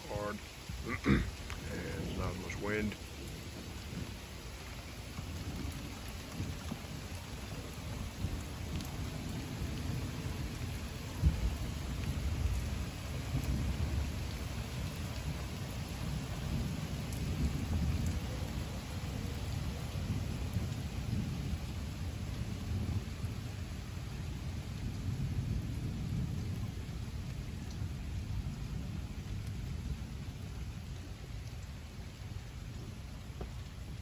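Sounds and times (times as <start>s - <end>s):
steady rain falling: 0.0s - 34.0s
thunder rumbling: 0.0s - 34.0s.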